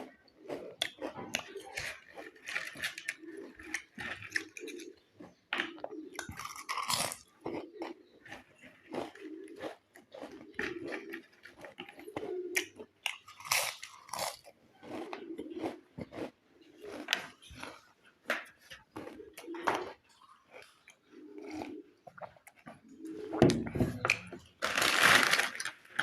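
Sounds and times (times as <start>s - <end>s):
chips crunching: 0.0s - 23.3s, 24.0s - 26.0s
chewing: 0.0s - 26.0s.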